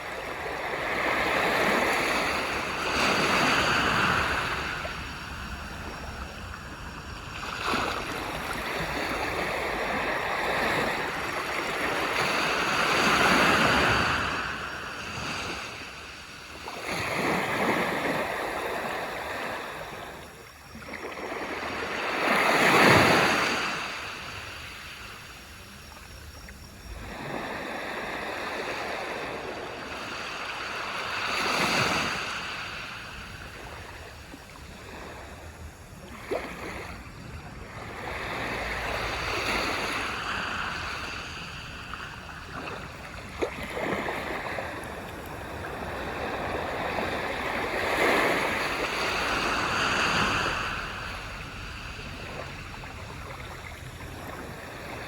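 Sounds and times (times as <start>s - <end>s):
small waves washing up beach: 0.0s - 55.0s.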